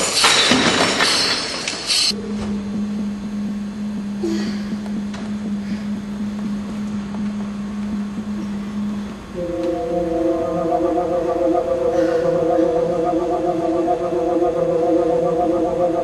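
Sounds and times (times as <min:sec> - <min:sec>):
steady low hum: 0:02.1 - 0:16.0.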